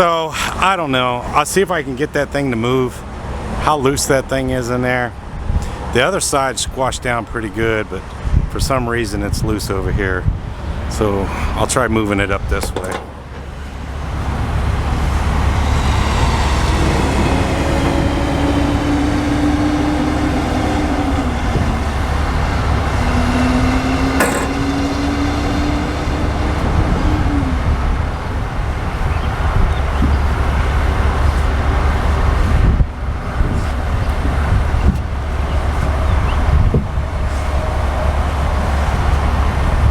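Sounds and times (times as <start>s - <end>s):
traffic rumble: 0.0s - 39.9s
vehicles passing by: 0.0s - 39.9s.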